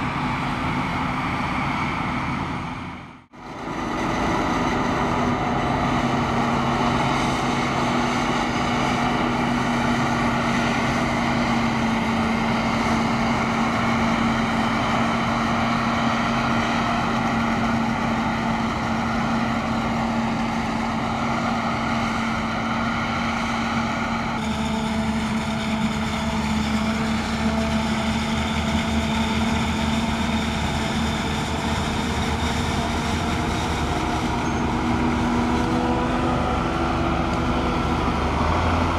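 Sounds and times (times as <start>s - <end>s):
forage harvester drone: 0.0s - 38.9s
tractor engine: 0.0s - 38.9s.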